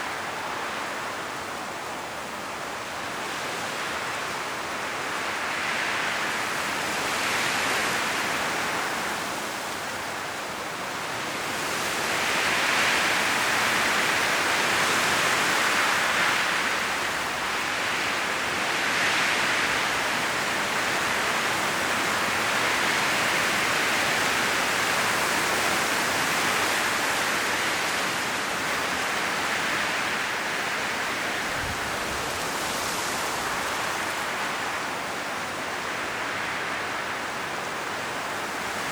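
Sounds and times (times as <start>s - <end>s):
wind rustling tree leaves: 0.0s - 38.9s.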